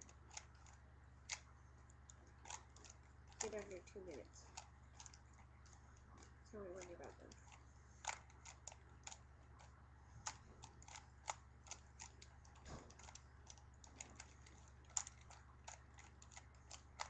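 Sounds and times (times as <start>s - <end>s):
steady low hum: 0.0s - 17.0s
puzzle cube clicking: 2.1s - 5.2s, 6.2s - 17.0s.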